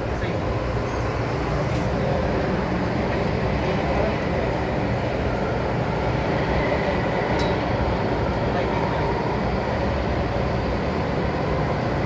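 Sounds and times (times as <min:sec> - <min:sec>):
train running rumble and hiss: 0:00.0 - 0:12.0.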